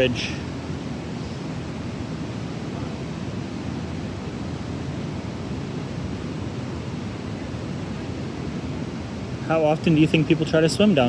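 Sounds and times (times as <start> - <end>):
waterfall and creek rushing: 0.0 - 11.0.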